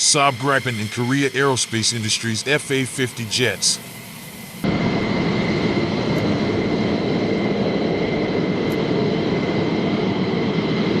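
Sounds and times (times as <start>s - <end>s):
jet engine rumble and whine: 0.0s - 11.0s.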